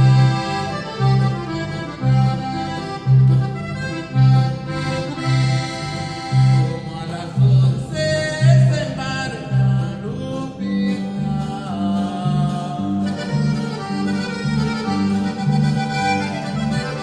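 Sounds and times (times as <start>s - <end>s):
accordion melody: 0.0s - 17.0s
electric bass notes: 0.0s - 17.0s.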